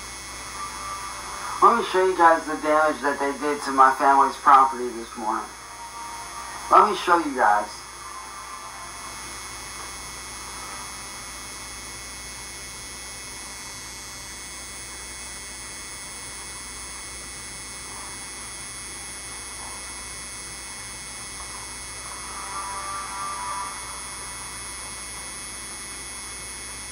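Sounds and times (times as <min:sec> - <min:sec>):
electrical hum and buzz: 0:00.0 - 0:26.9.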